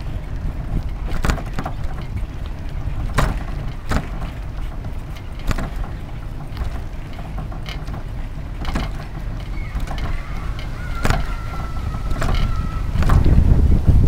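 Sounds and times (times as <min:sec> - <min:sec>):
bicycle jolting over bumps: 0:00.0 - 0:14.0
bicycle rolling on pavement: 0:00.0 - 0:14.0.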